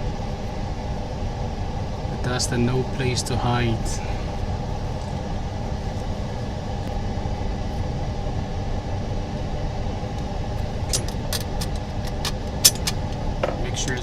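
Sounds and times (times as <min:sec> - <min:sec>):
low machine rumble: 0:00.0 - 0:14.0.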